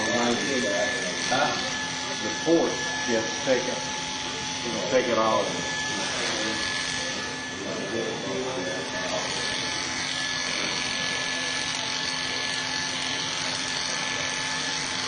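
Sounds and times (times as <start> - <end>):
electric hair clippers humming: 0.0 - 15.0.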